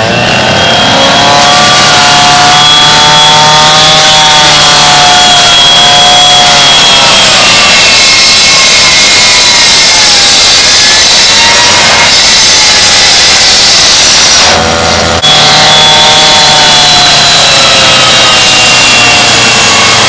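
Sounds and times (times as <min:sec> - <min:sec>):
cut-off saw cutting sheet metal: 0:00.0 - 0:20.0.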